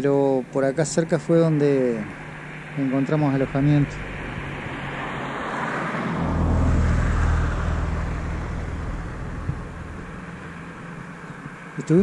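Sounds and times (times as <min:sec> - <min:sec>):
vehicle passing by: 0:01.0 - 0:12.0.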